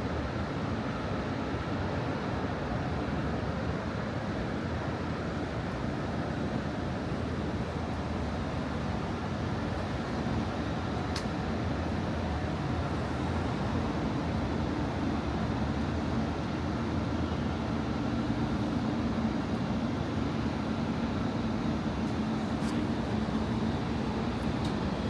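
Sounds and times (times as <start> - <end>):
city street traffic: 0.1 - 25.0.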